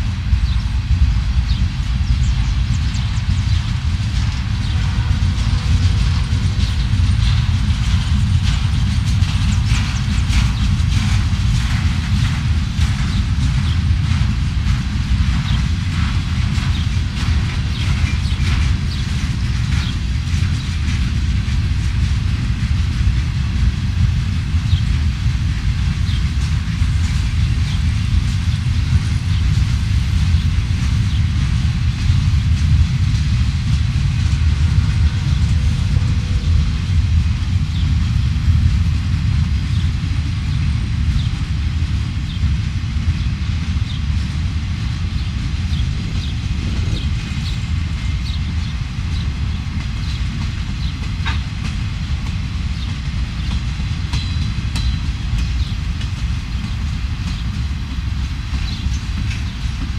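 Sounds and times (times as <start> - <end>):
train cars rumbling on track: 0.0 - 59.9.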